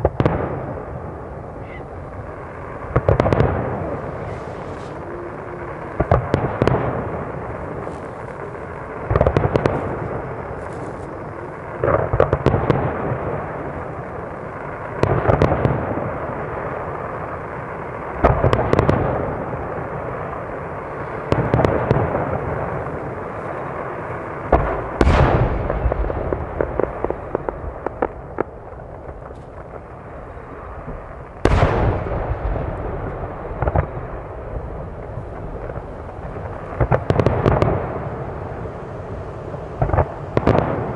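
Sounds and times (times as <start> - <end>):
firework crackling: 0.0 - 40.9
firework shells booming: 0.0 - 40.9.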